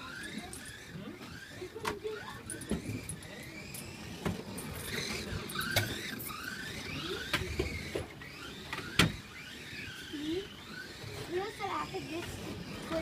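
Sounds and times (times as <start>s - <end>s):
toy car electric motors whining: 0.0s - 13.0s.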